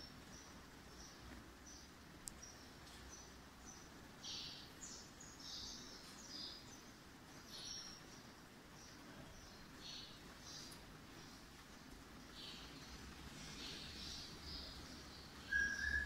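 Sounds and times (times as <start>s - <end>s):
low steady hum: 0.0s - 16.0s
small birds chirping: 0.0s - 16.0s.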